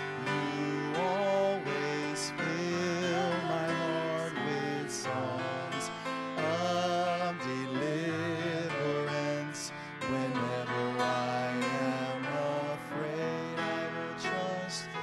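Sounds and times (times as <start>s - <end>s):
man and girls singing: 0.0s - 15.0s.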